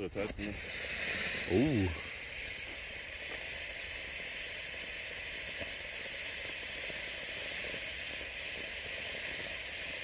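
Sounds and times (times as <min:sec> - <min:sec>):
faint crackles: 0:00.0 - 0:10.0
firework fountain hissing: 0:00.0 - 0:10.0.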